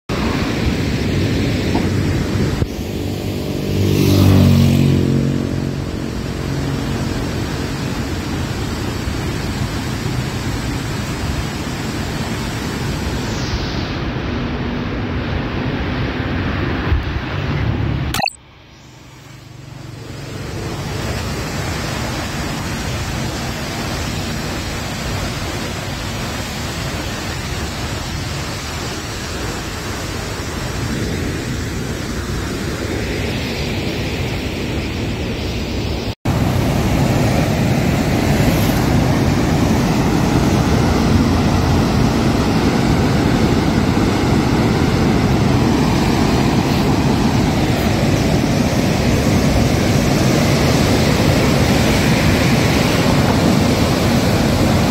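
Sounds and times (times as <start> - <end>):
rushing white water: 0.1 - 54.9.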